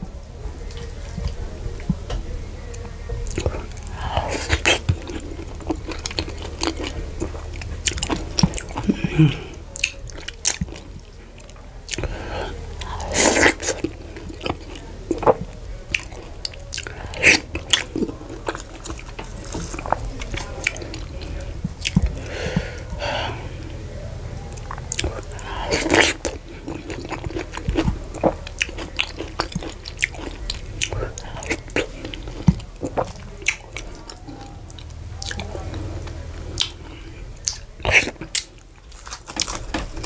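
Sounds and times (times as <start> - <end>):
steady low hum: 0.0 - 40.0
wet chewing: 0.0 - 40.0.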